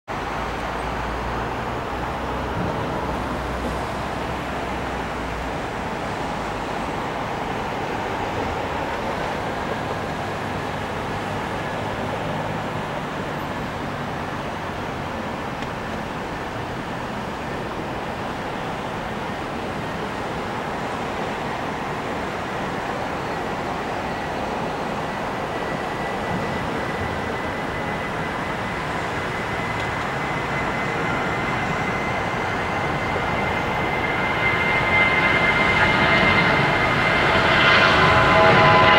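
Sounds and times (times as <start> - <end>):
distant jet engines rumbling: 0.2 - 38.9.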